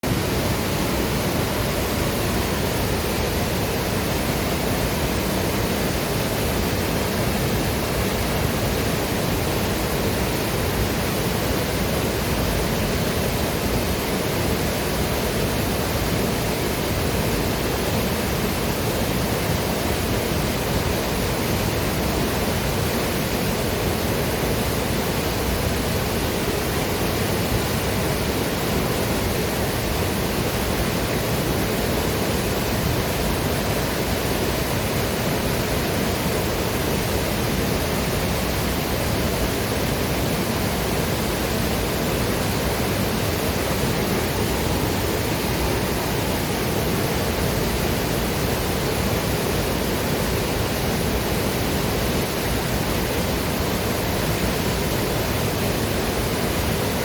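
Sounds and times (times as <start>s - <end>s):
waterfall and river rushing: 0.0s - 57.0s.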